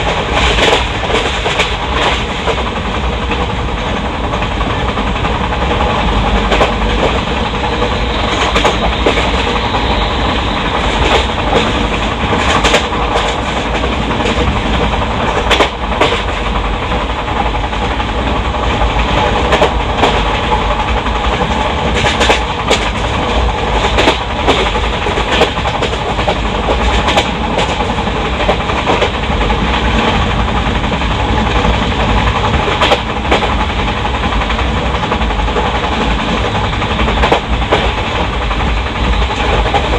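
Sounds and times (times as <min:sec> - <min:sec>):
rail joint clicks: 0:00.0 - 0:39.9
wheels rumbling on rail: 0:00.0 - 0:39.9.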